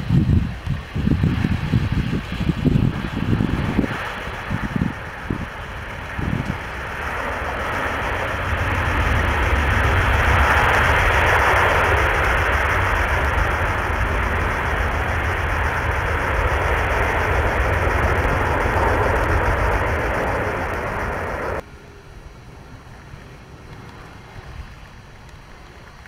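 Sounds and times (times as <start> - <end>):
deep rumble: 0.0 - 21.6
jet engine noise: 0.0 - 26.0.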